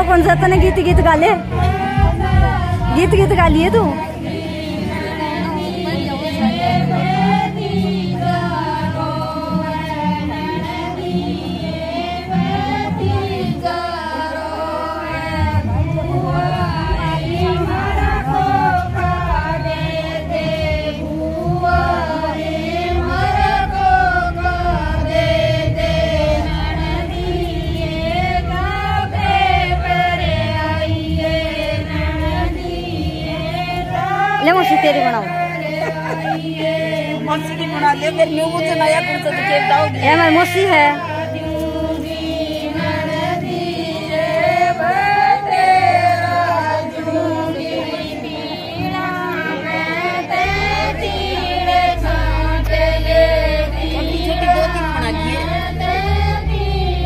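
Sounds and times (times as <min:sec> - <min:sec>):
women singing folk song: 0:00.0 - 0:57.0.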